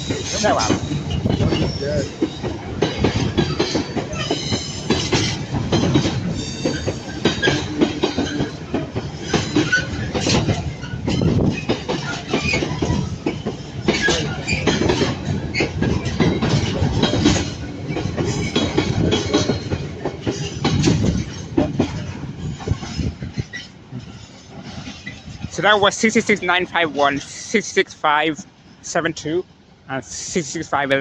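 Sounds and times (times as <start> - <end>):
train wheels clattering on rails: 0.0 - 29.4.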